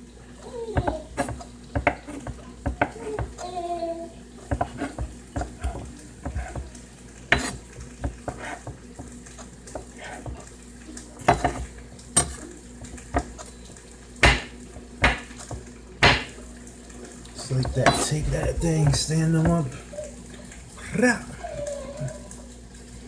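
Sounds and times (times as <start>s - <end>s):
food frying in a skillet: 0.0s - 23.0s.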